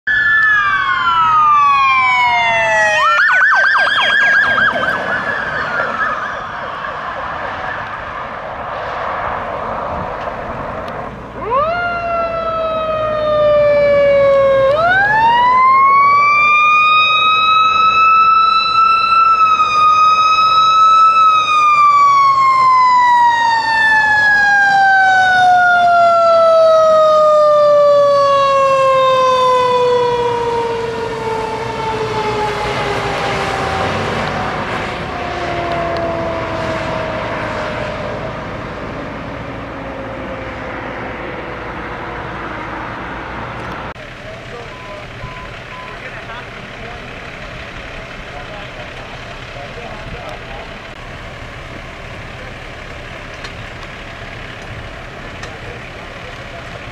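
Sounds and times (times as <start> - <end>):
fire truck siren: 0.1 - 56.9.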